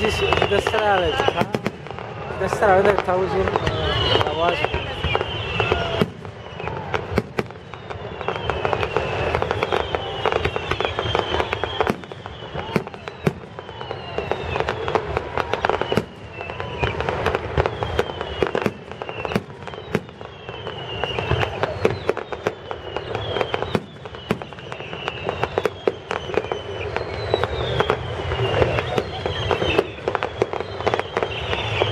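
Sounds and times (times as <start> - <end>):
falling firework whistles: 0.0 - 31.9
fireworks bangs and crackling: 0.0 - 31.9.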